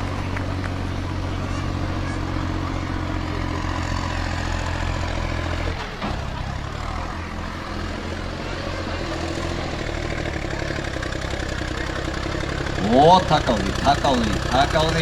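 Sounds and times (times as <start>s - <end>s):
tractor engine at high revs: 0.0s - 15.0s.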